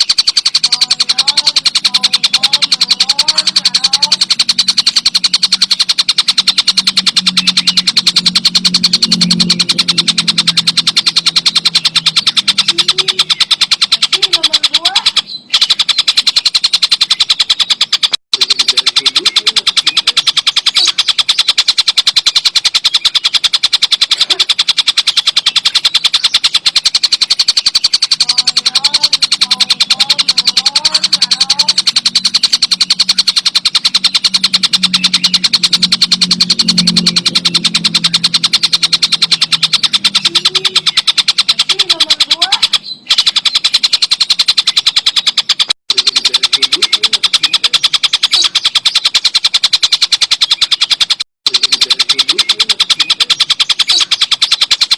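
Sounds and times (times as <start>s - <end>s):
low hum: 0.0s - 50.2s
kingfisher rattling call: 0.0s - 54.9s.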